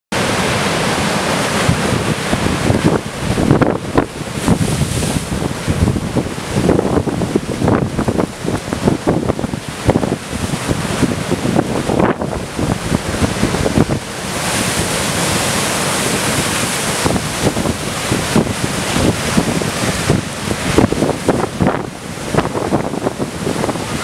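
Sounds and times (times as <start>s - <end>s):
waves breaking against rocks: 0.2s - 24.0s
wind gusts buffeting microphone: 0.2s - 24.0s.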